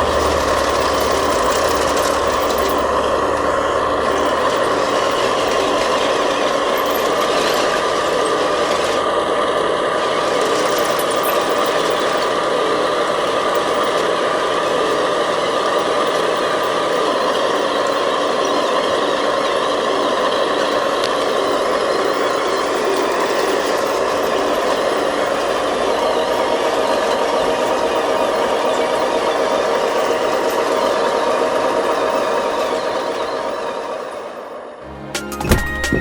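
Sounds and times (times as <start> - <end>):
remote-control machinery running: 0.0 - 36.0.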